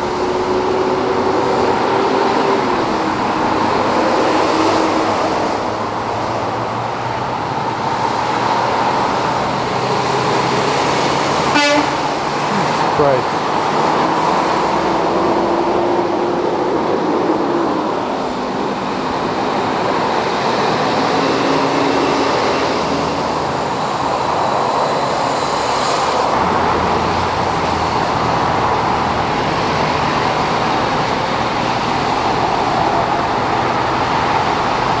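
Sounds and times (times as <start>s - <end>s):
deep traffic rumble: 0.0s - 35.0s
traffic on wet highway: 0.0s - 35.0s.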